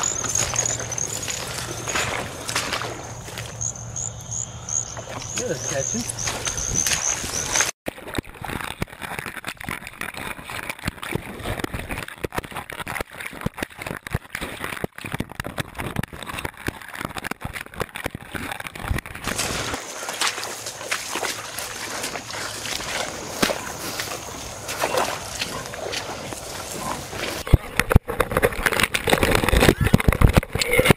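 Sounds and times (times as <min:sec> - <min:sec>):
grass and brush rustling on camera: 0:00.0 - 0:04.2, 0:04.8 - 0:07.8, 0:08.4 - 0:30.6.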